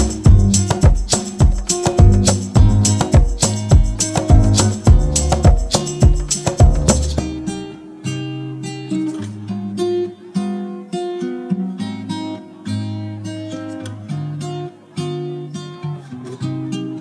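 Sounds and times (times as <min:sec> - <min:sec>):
acoustic guitar picked notes: 0:00.0 - 0:17.0.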